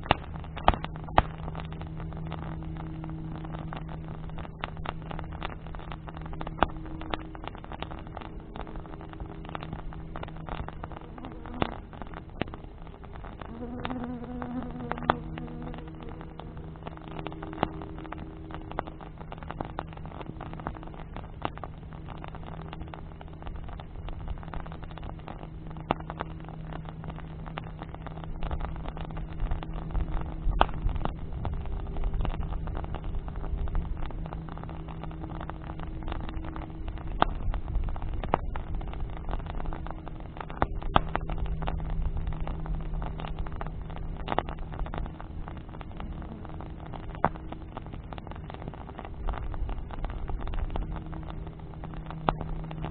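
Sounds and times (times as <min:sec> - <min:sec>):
low drone hum: 0:00.0 - 0:52.9
low rumble: 0:00.0 - 0:52.9
wood bonfire crackling: 0:00.0 - 0:52.9.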